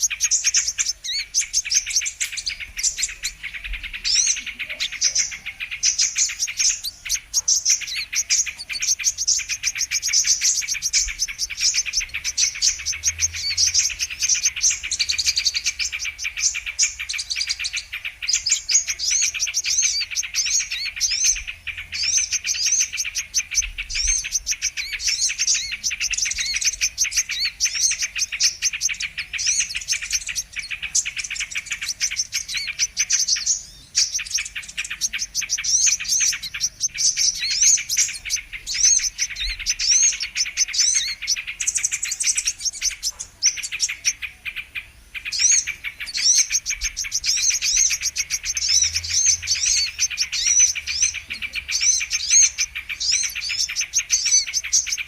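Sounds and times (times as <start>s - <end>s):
bird chirping and twittering: 0.0s - 55.0s.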